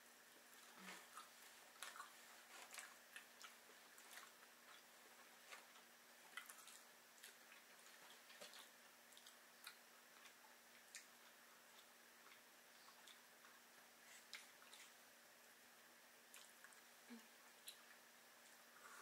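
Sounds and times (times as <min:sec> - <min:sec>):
faint steady hum: 0:00.0 - 0:19.0
people chewing: 0:00.4 - 0:15.0, 0:16.3 - 0:19.0.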